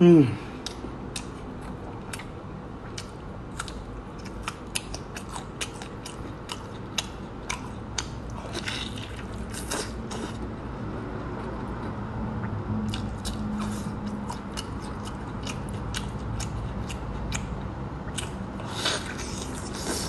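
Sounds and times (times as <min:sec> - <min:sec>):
wet chewing mouth sounds: 0:00.6 - 0:10.5, 0:11.3 - 0:20.0.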